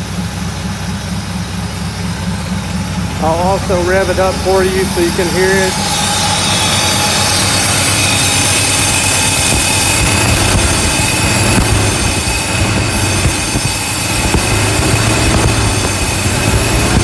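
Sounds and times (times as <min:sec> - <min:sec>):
car engine revving loudly: 0:00.0 - 0:17.0.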